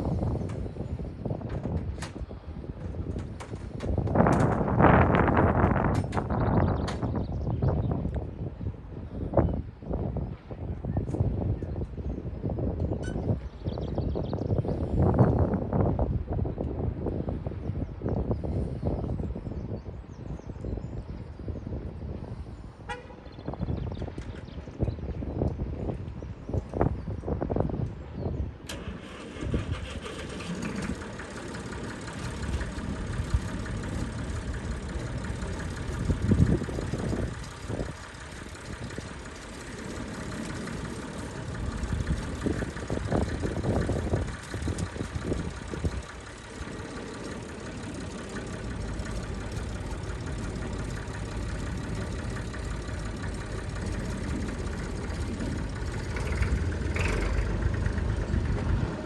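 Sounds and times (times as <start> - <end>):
tractor engines rumbling: 0.0 - 59.0.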